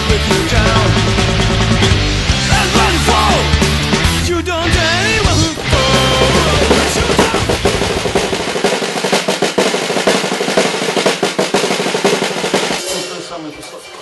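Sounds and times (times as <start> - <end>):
snare drum roll: 0.0 - 4.0, 5.3 - 13.3.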